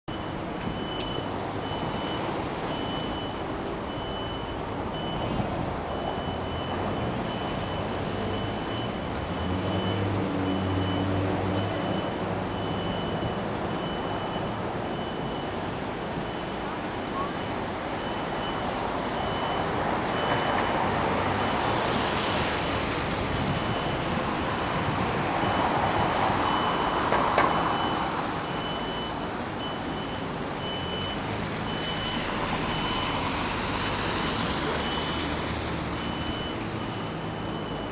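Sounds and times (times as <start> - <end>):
reversing alarm beeping: 0.1 - 22.6, 23.4 - 24.2, 25.4 - 33.3, 34.8 - 37.9
traffic on wet pavement: 0.1 - 37.9
cars passing: 0.2 - 37.9.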